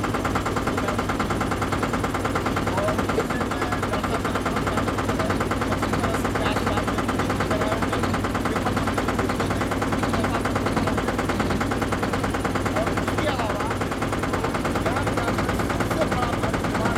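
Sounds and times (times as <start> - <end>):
boat engine chugging: 0.0 - 16.9.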